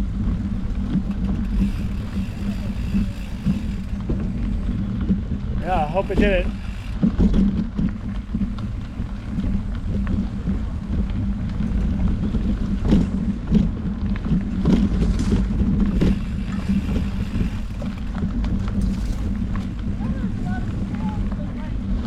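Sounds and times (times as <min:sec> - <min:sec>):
bike knocks and rattles: 0:00.0 - 0:22.0
tyre and wind rumble: 0:00.0 - 0:22.0.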